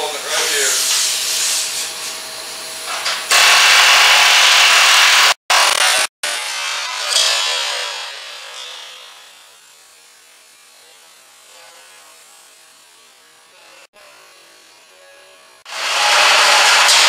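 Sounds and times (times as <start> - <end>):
power tool: 0.0 - 17.0.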